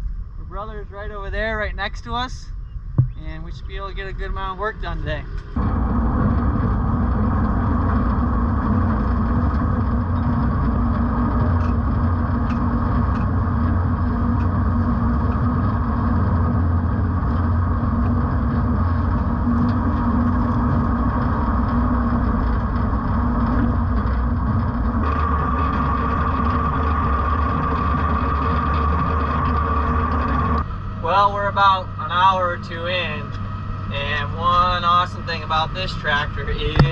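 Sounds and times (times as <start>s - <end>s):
steady high whine: 0.0s - 36.9s
tractor engine droning: 0.0s - 36.9s.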